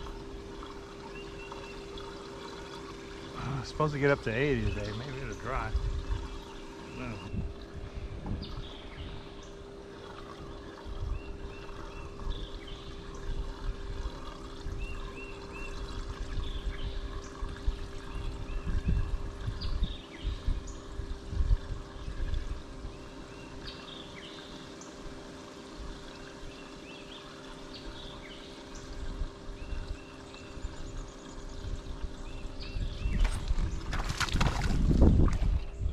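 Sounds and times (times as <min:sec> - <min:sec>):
steady low hum: 0:00.0 - 0:35.9
water trickling and lapping: 0:00.0 - 0:35.9.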